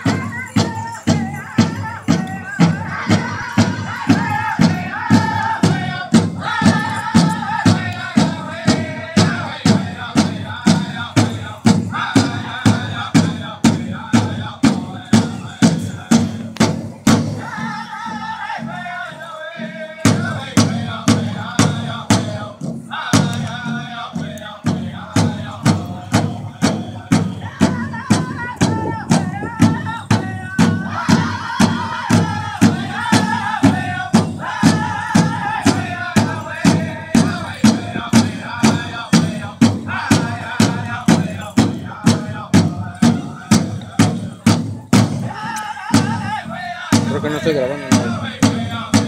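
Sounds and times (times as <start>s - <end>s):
high unison singing: 0.0s - 49.0s
powwow drum beat: 0.0s - 49.0s.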